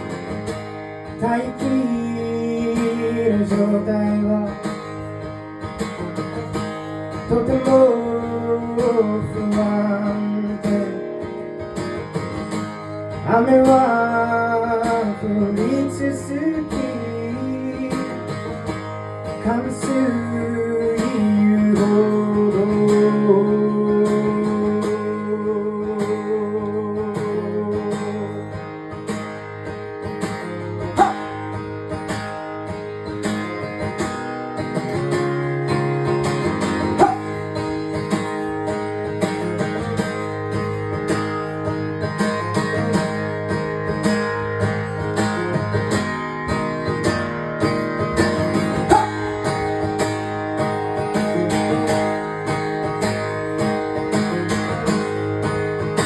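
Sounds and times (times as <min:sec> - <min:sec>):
strummed and picked guitar: 0:00.0 - 0:56.0.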